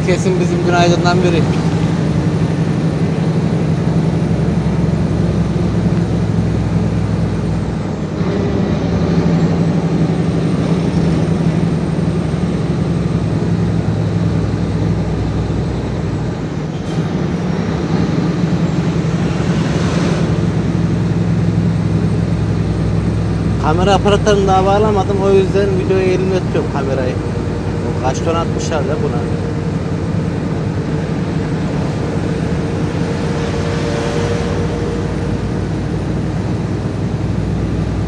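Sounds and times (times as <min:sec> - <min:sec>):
truck diesel engine drone: 0:00.0 - 0:38.0.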